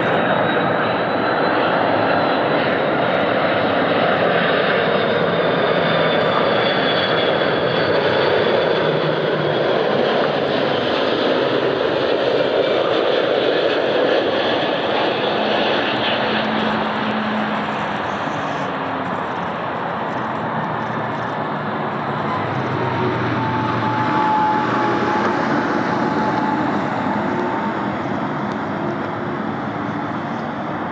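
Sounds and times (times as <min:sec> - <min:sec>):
airliner engines running: 0:00.0 - 0:30.9.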